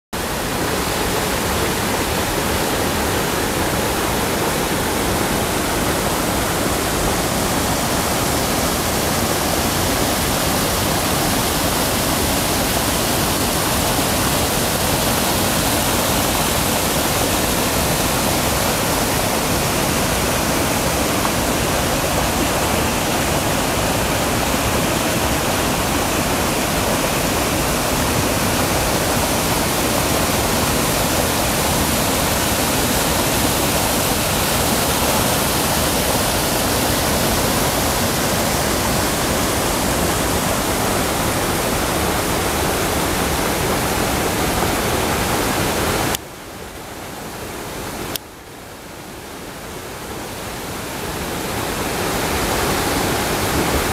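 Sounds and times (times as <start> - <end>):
stream rushing over rocks: 0.2 - 53.9.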